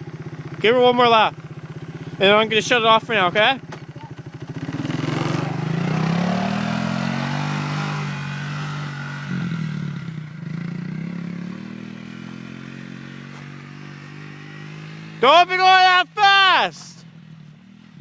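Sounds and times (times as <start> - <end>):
quad bike engine revving: 0.0 - 18.0.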